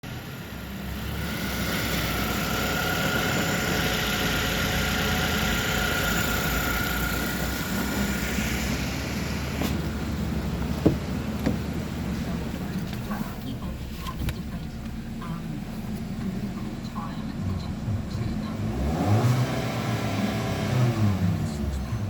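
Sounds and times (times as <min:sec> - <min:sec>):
car engine idling: 0:00.0 - 0:22.0
thin steady whine: 0:00.2 - 0:18.6.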